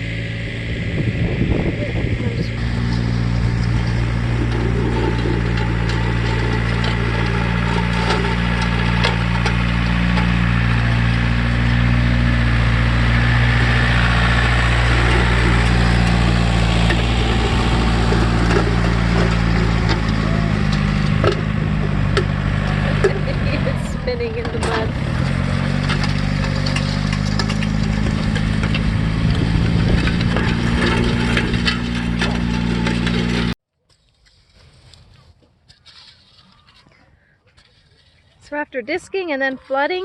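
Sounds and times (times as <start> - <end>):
tractor engine running: 0.0 - 33.6.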